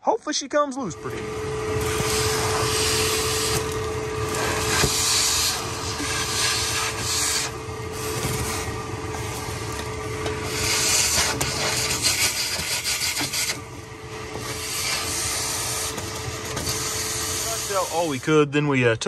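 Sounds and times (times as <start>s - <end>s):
shop vacuum motor hum: 0.8s - 18.5s
debris rasping in vacuum hose: 1.0s - 18.3s.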